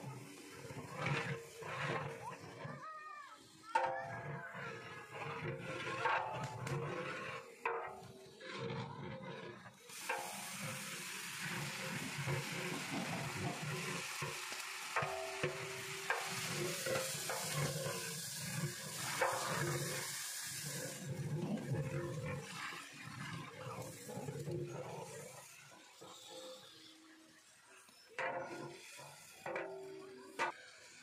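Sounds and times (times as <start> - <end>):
metal spatula scraping a pot: 0.0 - 31.0
onions sizzling in hot oil: 0.0 - 31.0.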